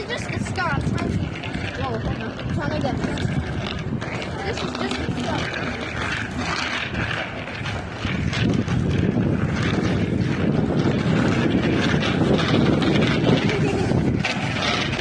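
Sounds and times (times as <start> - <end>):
bicycle rolling noise: 0.0 - 15.0
wind rushing over microphone: 0.0 - 15.0.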